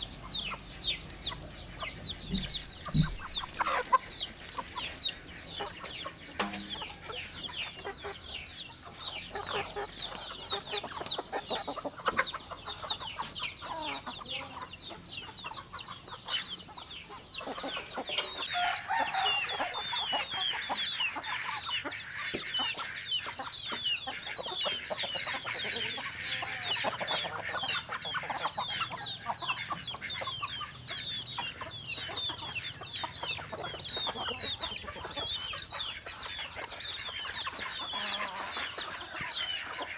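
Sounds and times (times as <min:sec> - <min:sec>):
chickens clucking and chirping: 0:00.0 - 0:39.9.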